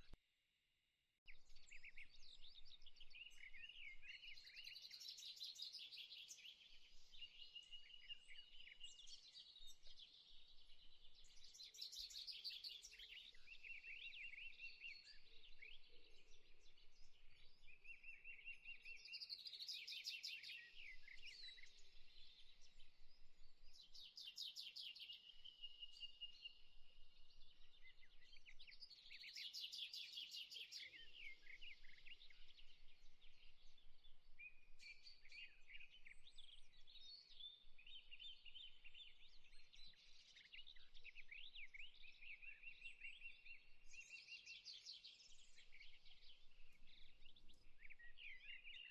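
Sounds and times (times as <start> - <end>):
birdsong chirps and whistles: 1.3 - 48.9.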